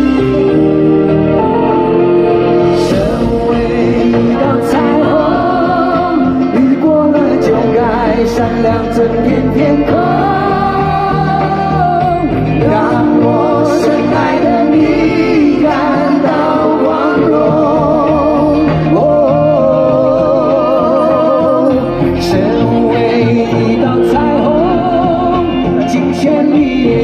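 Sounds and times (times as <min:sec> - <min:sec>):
band accompaniment: 0:00.0 - 0:27.0
men singing pop song live: 0:02.5 - 0:27.0.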